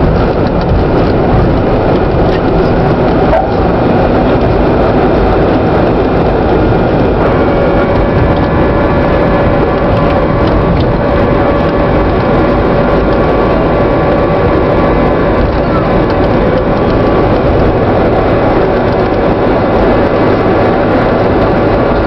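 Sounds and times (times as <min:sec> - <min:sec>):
airplane cabin engine roar: 0:00.0 - 0:22.0
steady whine: 0:00.0 - 0:22.0.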